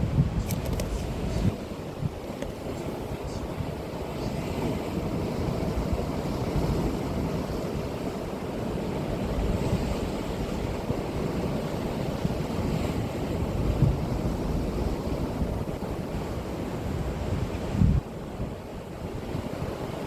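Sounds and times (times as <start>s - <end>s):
surf breaking on shore: 0.0s - 20.0s
wind on microphone: 0.0s - 20.0s.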